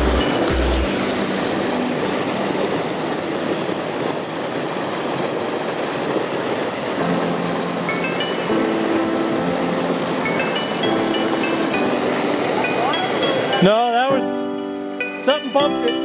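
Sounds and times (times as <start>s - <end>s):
stream water rushing over rocks: 0.0s - 16.0s.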